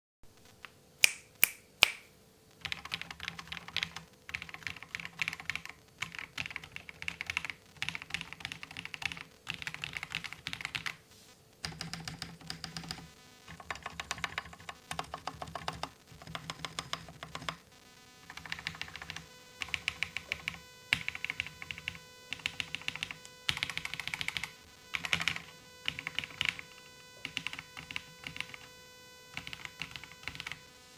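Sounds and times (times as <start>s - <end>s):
mechanical keyboard typing: 2.6s - 11.0s, 11.6s - 17.6s, 18.3s - 26.6s, 27.2s - 28.7s, 29.3s - 30.6s.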